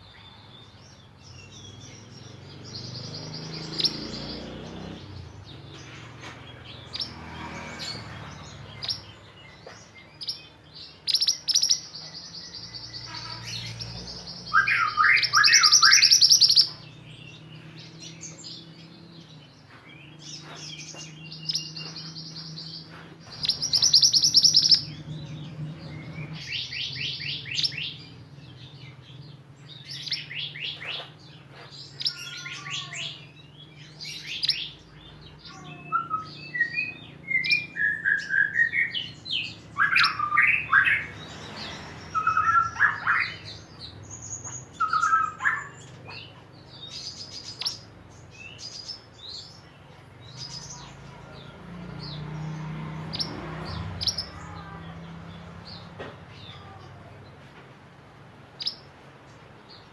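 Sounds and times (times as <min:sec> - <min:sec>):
bird singing trills: 0:00.0 - 0:57.4, 0:58.5 - 0:59.9.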